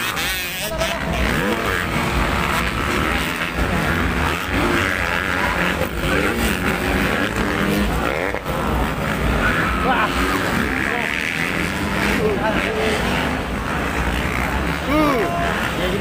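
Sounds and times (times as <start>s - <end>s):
background noise: 0.0s - 16.0s
dirt bike engines revving: 0.0s - 16.0s.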